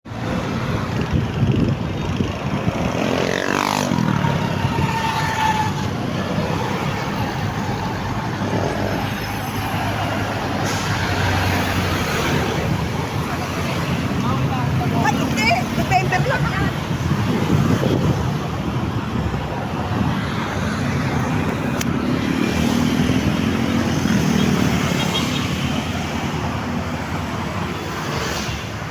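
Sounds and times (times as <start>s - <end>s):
road traffic noise: 0.0s - 28.9s
vehicle passing by: 0.2s - 28.9s.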